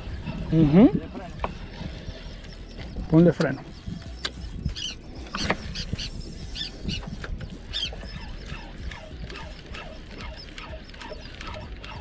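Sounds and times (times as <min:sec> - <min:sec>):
seabirds calling: 0:00.0 - 0:12.0
steady low rumble: 0:00.0 - 0:12.0.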